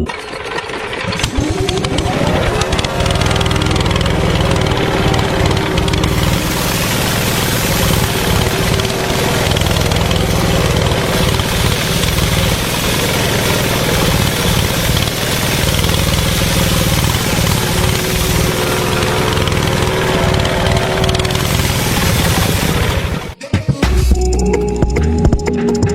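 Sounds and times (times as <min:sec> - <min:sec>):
small engine running: 0:00.0 - 0:23.4.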